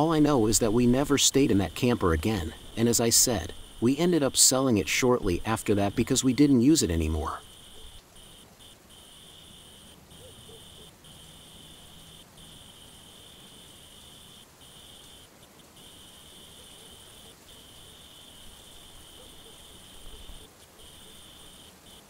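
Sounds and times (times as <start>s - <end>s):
crickets trilling: 0.0s - 22.0s
faint rain hiss: 0.0s - 22.0s.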